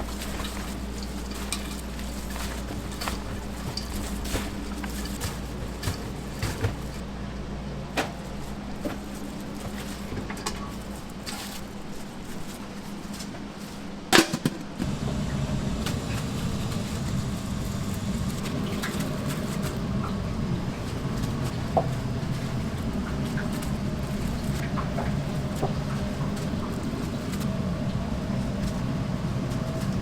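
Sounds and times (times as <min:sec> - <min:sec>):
machine hum: 0:00.0 - 0:12.0, 0:14.8 - 0:30.0.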